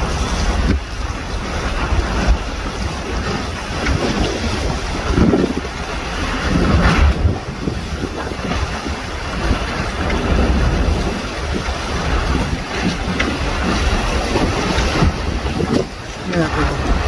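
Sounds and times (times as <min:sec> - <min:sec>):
waves rushing: 0:00.0 - 0:17.0
wind buffeting microphone: 0:00.0 - 0:17.0.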